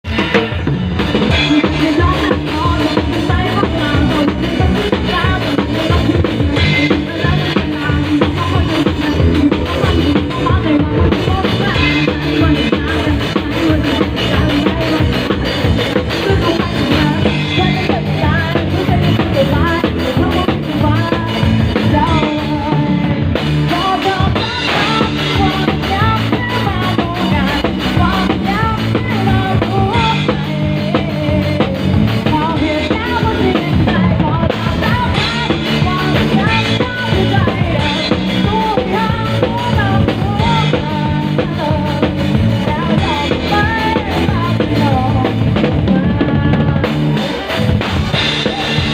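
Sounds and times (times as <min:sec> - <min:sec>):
drum kit beat: 0:00.0 - 0:48.9
person singing: 0:00.1 - 0:48.9.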